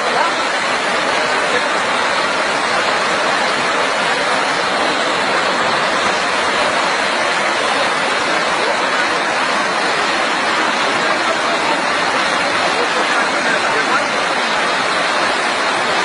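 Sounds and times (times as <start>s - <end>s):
rushing floodwater: 0.0s - 16.0s.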